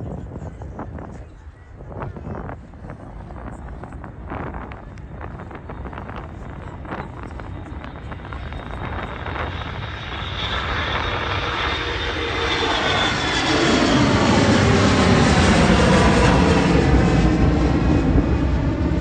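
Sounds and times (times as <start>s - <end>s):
airliner engines passing: 0.0s - 19.0s.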